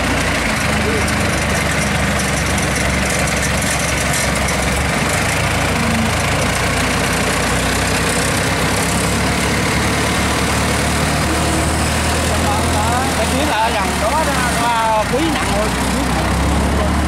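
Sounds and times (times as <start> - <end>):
combine harvester diesel engine: 0.0 - 17.0.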